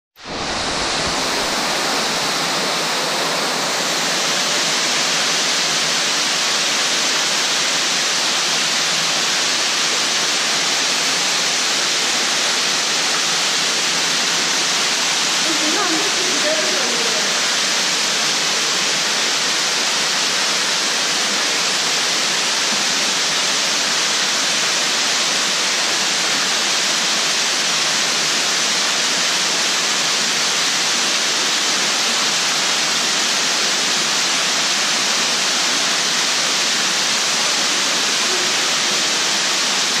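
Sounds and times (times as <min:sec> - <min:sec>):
waterfall rushing into pool: 0:00.2 - 0:40.0.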